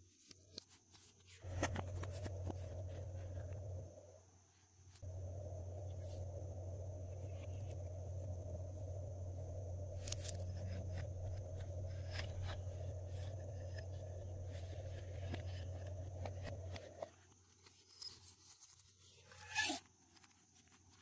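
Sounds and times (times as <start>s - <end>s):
steady low hum: 0.2s - 18.0s.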